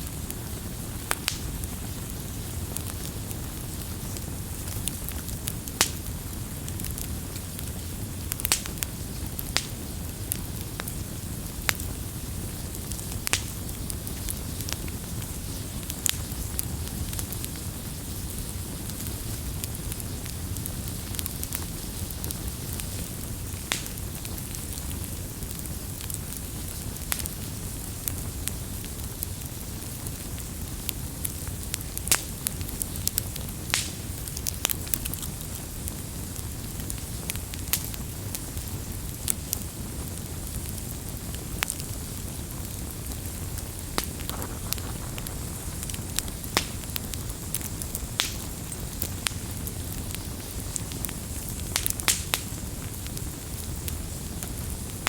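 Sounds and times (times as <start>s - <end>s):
campfire flame rumble: 0.0s - 55.0s
fire pops and crackles: 0.0s - 55.0s.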